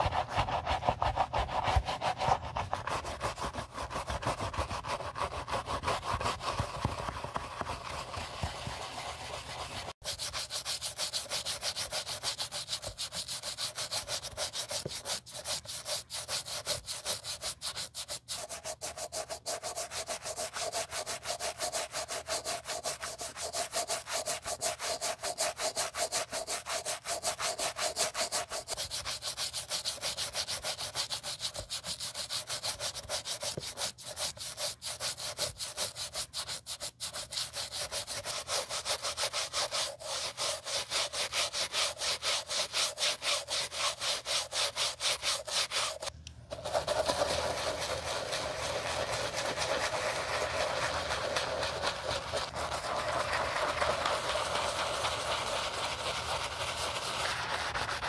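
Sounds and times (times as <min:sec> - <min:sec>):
brush scrubbing a sneaker: 0:00.0 - 0:58.0.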